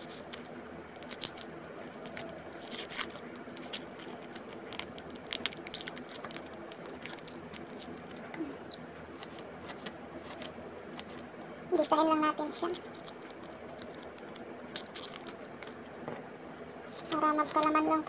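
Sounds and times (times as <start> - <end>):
garlic scraping and crunching: 0.0 - 16.0, 16.8 - 17.8
steady low hum: 0.0 - 18.0.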